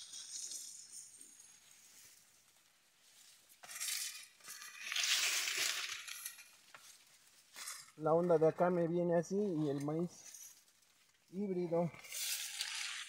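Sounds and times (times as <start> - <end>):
maize leaves rustling: 0.0 - 3.7, 4.5 - 13.0.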